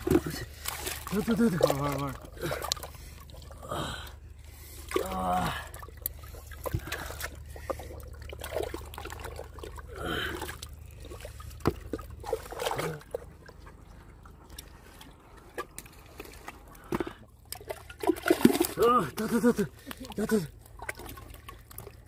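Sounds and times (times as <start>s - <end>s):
water sloshing and splashing: 0.0s - 22.0s
water trickling and dripping: 0.0s - 22.0s.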